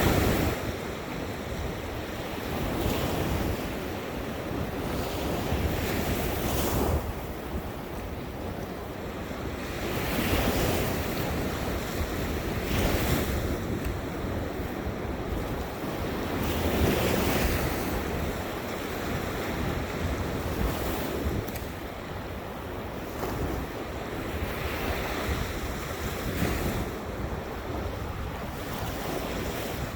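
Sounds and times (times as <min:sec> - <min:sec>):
ocean surf breaking: 0:00.0 - 0:29.9
wind rumbling on microphone: 0:00.0 - 0:29.9.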